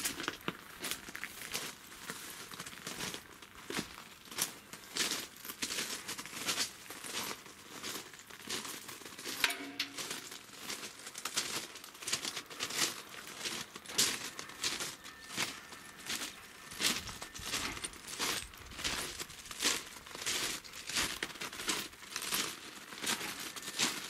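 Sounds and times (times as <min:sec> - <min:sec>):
footsteps crunching on gravel: 0:00.0 - 0:24.0.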